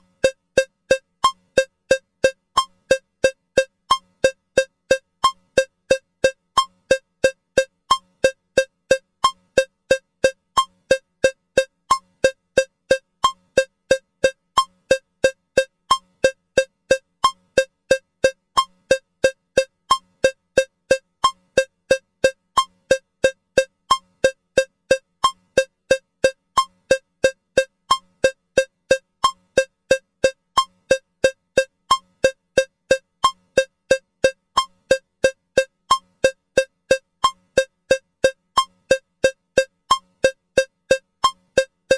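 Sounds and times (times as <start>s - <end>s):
metronome cowbell clicks: 0.0s - 41.9s.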